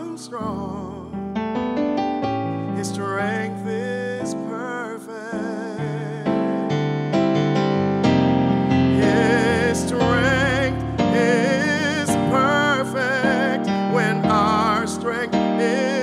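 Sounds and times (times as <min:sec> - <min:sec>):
keyboard worship ballad: 0:00.0 - 0:16.0.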